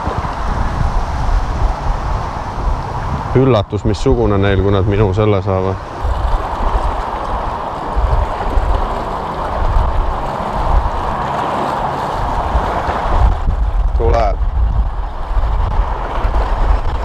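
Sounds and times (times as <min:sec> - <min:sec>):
choppy water rushing: 0:00.0 - 0:17.0
wind gusting across microphone: 0:00.0 - 0:17.0.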